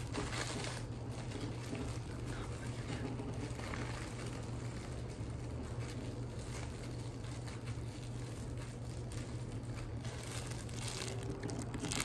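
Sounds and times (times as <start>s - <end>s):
candy wrapper rustling: 0.0s - 12.0s
plastic bag handled: 0.0s - 12.0s
steady low hum: 0.0s - 12.0s.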